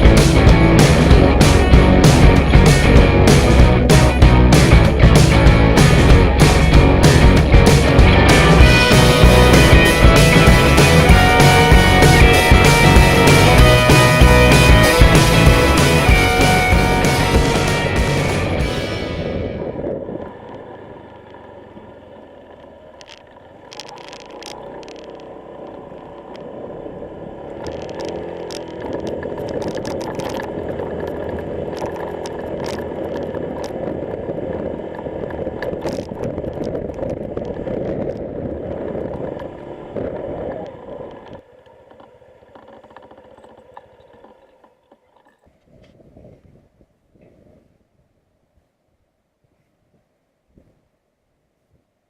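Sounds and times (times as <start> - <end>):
scooter engine running: 0.0 - 45.8.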